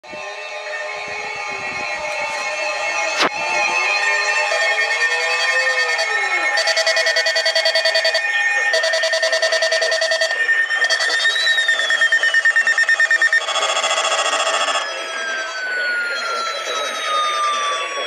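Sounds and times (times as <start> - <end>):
sliding alarm tone: 0.0 - 18.0
rapid electronic alarm beeping: 0.1 - 18.0.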